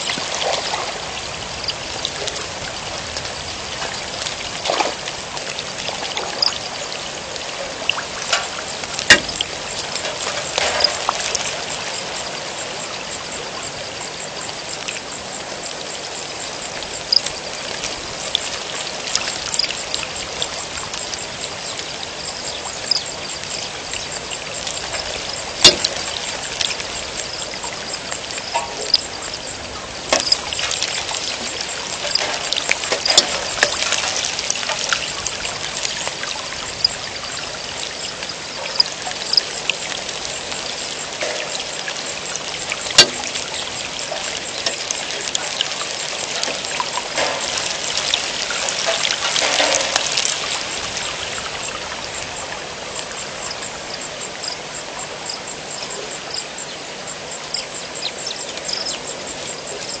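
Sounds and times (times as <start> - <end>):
rain falling: 0.0 - 60.0
water pouring and trickling: 0.0 - 60.0.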